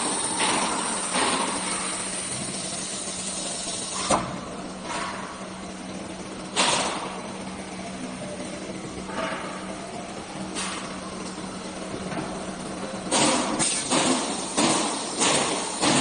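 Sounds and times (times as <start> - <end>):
cnc router humming: 0.0 - 16.0.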